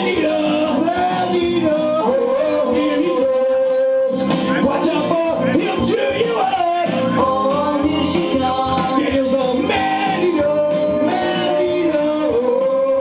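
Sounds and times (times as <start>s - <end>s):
loud backing track: 0.0s - 13.0s
men singing karaoke: 0.0s - 13.0s.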